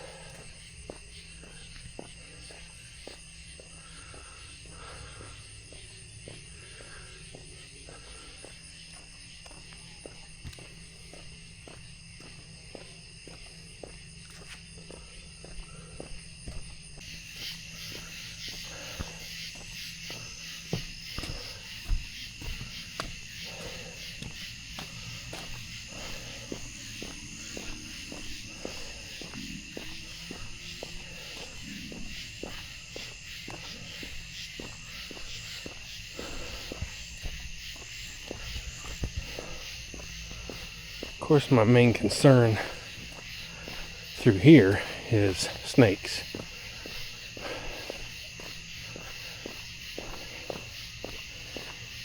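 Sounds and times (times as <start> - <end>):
crickets chirping: 0.0 - 52.0
footsteps walking: 0.0 - 52.0
night insects chorus: 0.0 - 52.0.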